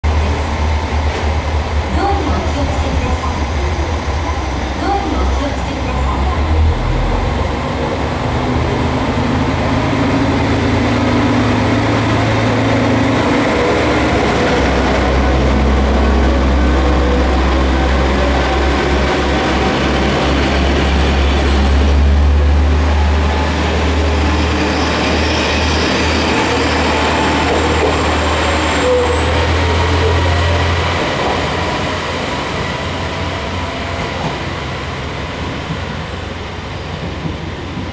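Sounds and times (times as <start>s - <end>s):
diesel train engine droning: 0.0s - 37.9s.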